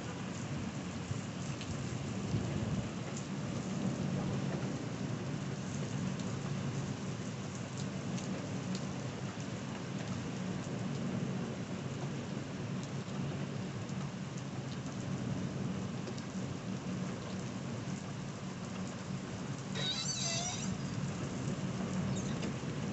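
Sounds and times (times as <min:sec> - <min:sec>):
heavy rain pouring on street: 0:00.0 - 0:22.9.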